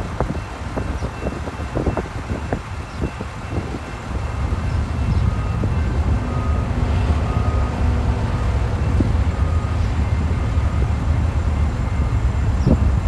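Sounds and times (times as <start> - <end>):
engine rumble: 0.0 - 13.0
rail cars rolling on rails: 0.0 - 13.0.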